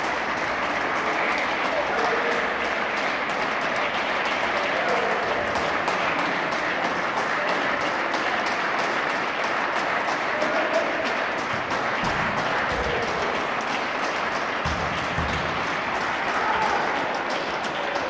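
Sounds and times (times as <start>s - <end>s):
crowd applause: 0.0s - 18.0s
voices: 0.0s - 18.0s.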